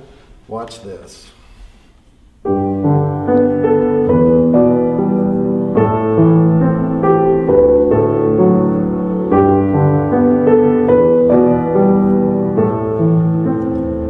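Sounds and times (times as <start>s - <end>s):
piano chords: 2.4s - 14.0s.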